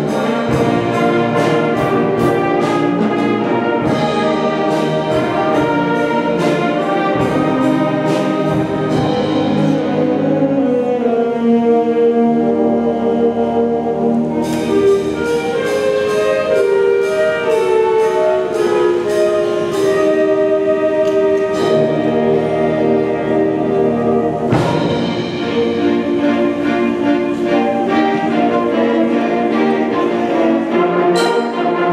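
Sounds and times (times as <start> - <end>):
concert band playing: 0.0 - 31.9.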